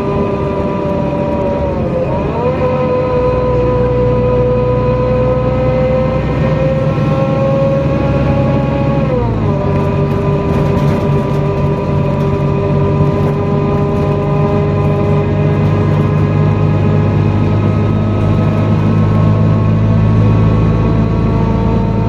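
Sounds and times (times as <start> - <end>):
bus engine whine: 0.0 - 22.0.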